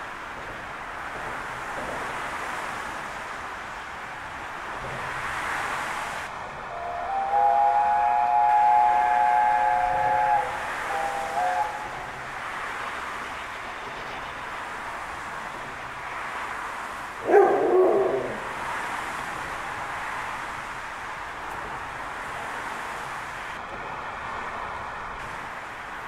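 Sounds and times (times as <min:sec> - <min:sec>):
steam train running: 0:00.0 - 0:26.0.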